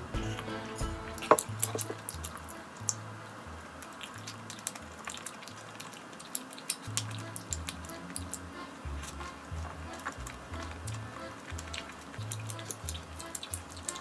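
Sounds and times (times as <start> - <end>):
quiet background music: 0.0 - 6.0, 6.7 - 14.0
biting and chewing clicks: 1.3 - 3.0, 3.7 - 14.0.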